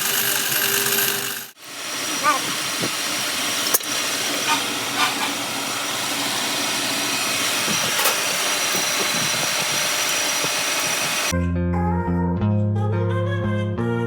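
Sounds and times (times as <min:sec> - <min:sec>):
machine hissing: 0:00.0 - 0:11.3.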